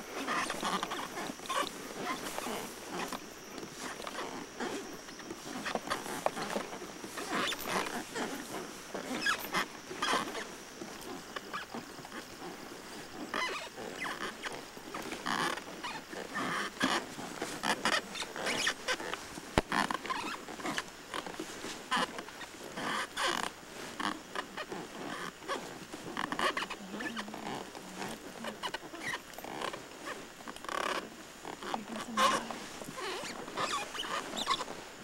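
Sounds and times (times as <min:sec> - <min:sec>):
wooden seat rustling and scraping: 0:00.0 - 0:35.0.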